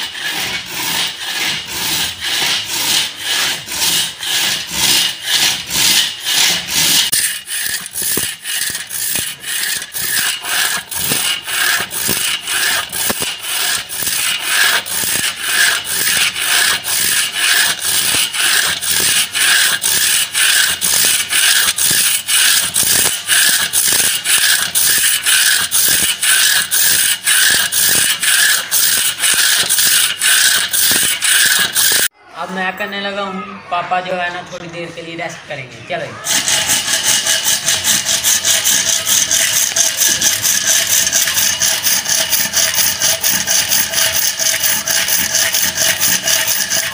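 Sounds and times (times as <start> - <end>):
hand saw cutting log: 0.0 - 32.1, 36.2 - 46.9.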